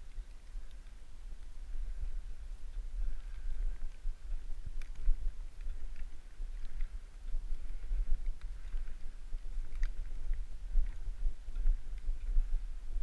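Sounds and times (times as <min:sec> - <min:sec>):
low microphone rumble: 0:00.0 - 0:13.0.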